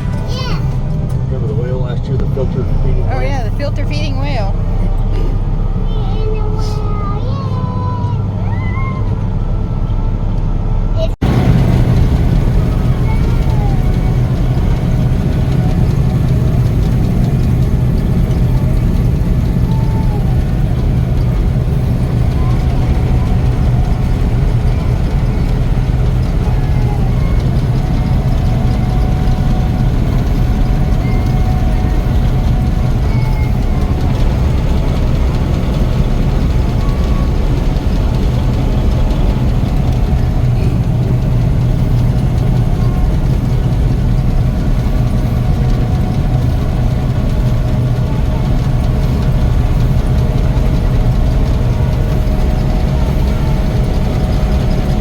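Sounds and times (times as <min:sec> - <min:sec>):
faint steady whine: 0:00.0 - 0:55.0
heavy machinery engine drone: 0:00.0 - 0:55.0.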